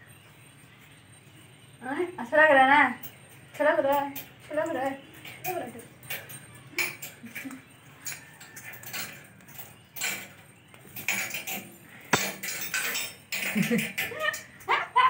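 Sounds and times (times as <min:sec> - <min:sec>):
metal chain rattling: 0:00.0 - 0:15.0.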